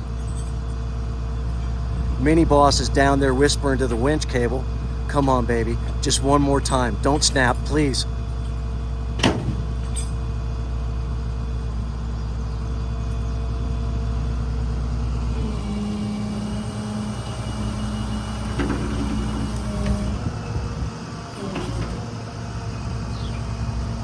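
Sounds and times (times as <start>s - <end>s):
tow truck engine running: 0.0s - 24.0s
winch hum: 0.0s - 24.0s.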